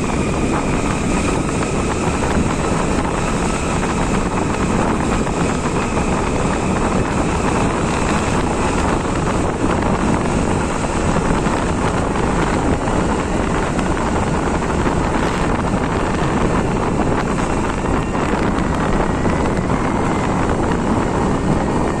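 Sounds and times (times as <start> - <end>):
motorcycle engine running: 0.0 - 22.0
tyre noise on road: 0.0 - 22.0
wind rushing over microphone: 0.0 - 22.0.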